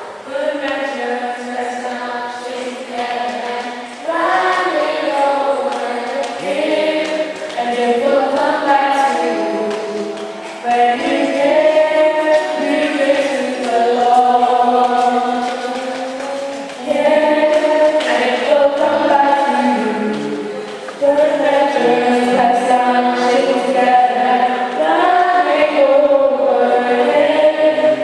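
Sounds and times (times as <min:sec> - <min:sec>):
church choir singing: 0:00.0 - 0:28.0.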